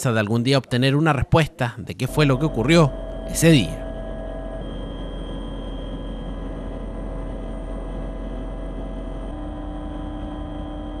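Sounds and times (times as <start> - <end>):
steady hum tones: 1.6 - 11.0
aircraft cabin drone: 2.1 - 11.0.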